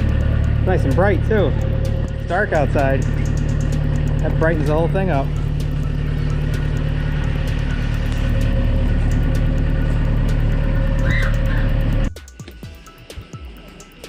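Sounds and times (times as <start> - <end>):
diesel engine idling: 0.0 - 12.2.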